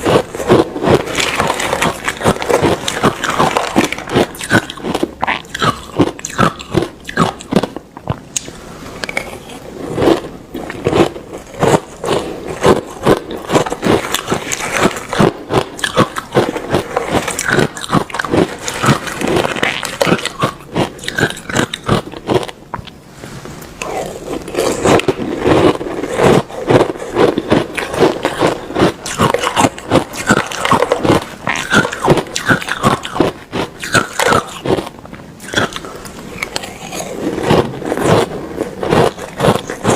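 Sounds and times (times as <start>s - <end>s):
ice being chewed: 0.0s - 22.9s, 23.8s - 39.9s.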